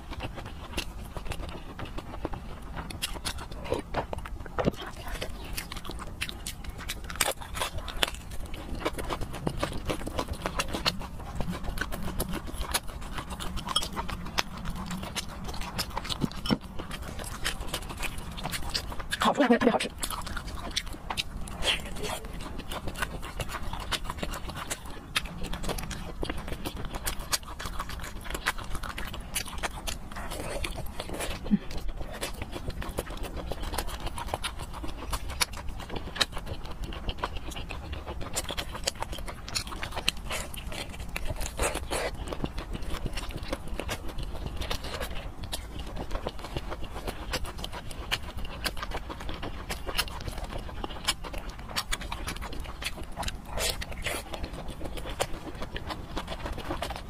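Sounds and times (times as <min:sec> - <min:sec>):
wet chewing and lip smacking: 0:00.0 - 0:57.0.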